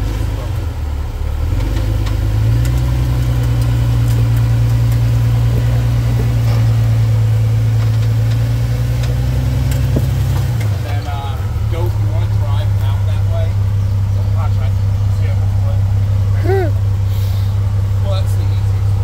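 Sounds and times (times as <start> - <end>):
car engine pulling under load: 0.0 - 19.0.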